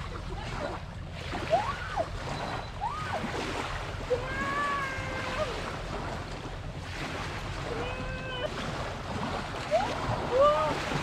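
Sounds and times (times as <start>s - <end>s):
waves lapping at rocky shore: 0.0s - 11.0s.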